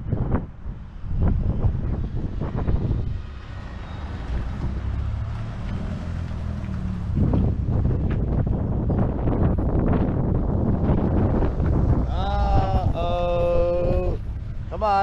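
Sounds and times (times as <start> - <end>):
wind buffeting microphone: 0.0 - 15.0
car engine passing by: 1.9 - 14.8.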